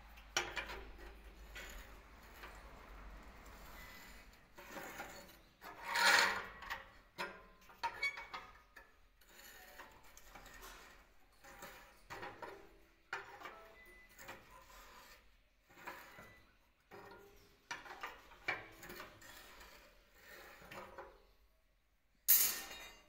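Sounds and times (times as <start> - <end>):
steel rod scraping and knocking: 0.1 - 21.4.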